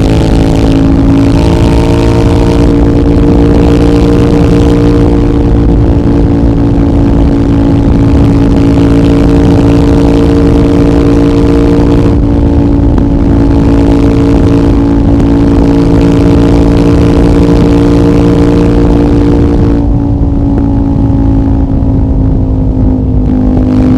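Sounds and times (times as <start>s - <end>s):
loud motorcycle engine running: 0.0s - 23.9s.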